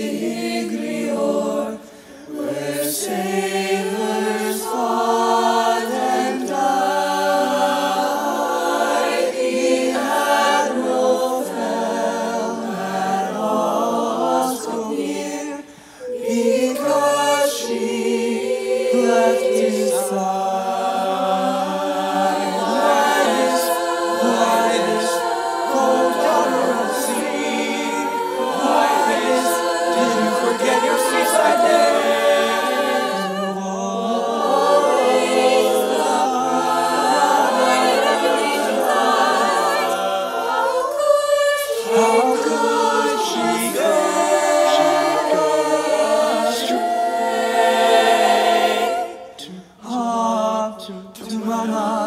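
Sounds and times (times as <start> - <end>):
mixed choir singing a cappella: 0.0 - 52.0.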